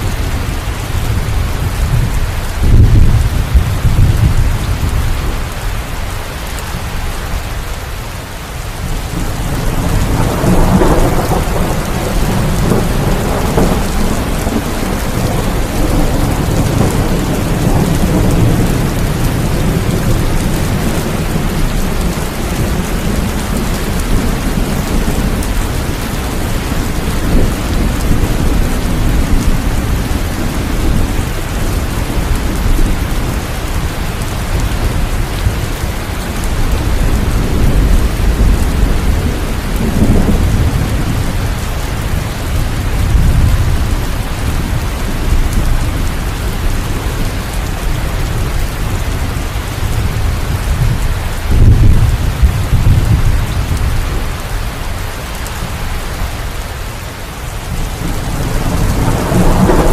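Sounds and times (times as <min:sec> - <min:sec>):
thunder rumbling: 0:00.0 - 0:05.6, 0:08.7 - 0:59.9
steady rain falling: 0:00.0 - 0:59.9.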